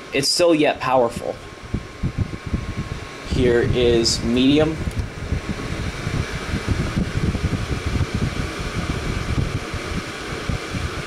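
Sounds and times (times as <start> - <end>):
fan blowing air: 0.0 - 11.0.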